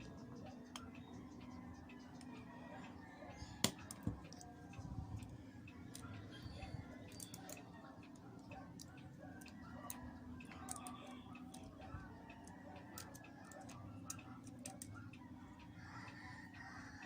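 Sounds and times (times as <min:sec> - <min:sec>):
small parts and tools clicking: 0:00.0 - 0:17.0.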